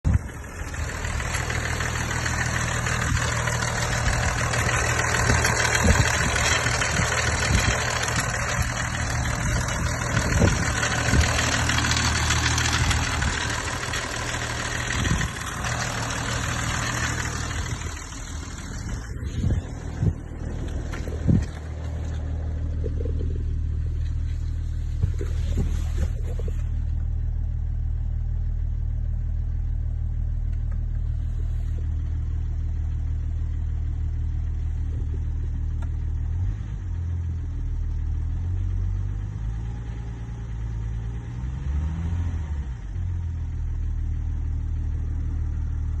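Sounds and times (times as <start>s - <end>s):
diesel engine idling and revving: 0.0s - 46.0s.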